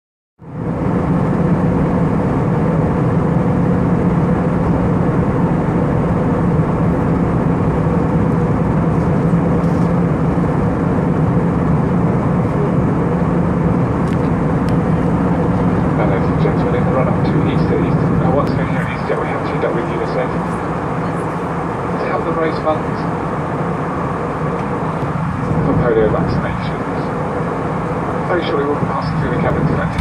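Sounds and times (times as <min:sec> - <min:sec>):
airliner cabin engine drone: 0:00.4 - 0:30.0.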